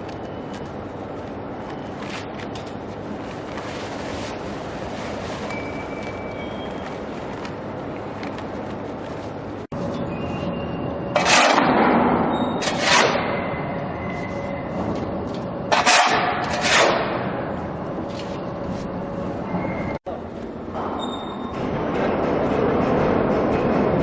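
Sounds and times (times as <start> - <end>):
faint industrial hum: 0.0 - 24.0.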